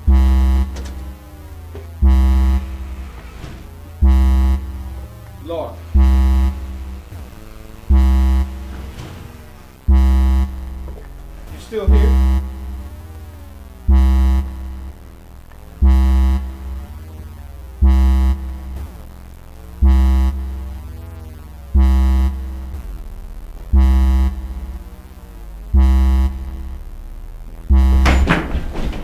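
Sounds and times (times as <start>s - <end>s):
low pulsing synth note: 0.0s - 29.0s.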